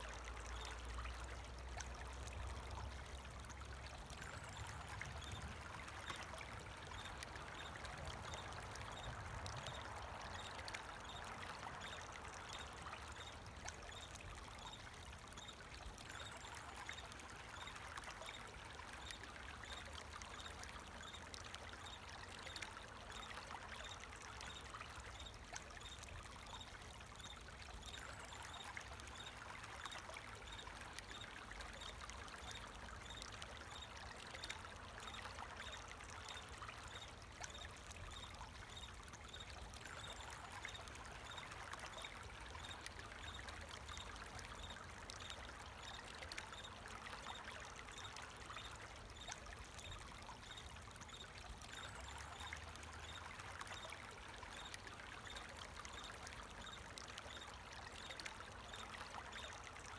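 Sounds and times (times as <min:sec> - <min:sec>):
water flowing: 0:00.0 - 0:59.9.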